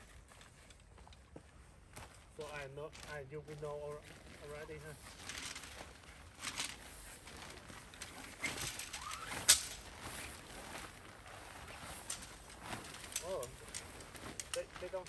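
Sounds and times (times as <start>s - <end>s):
tent parts rustling: 2.1s - 15.0s.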